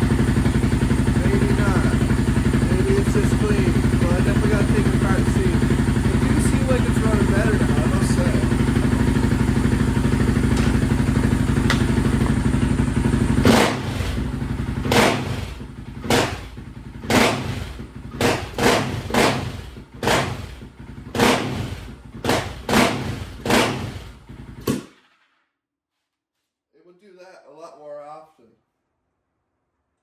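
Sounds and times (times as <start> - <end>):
atv engine idling and revving: 0.0 - 24.8.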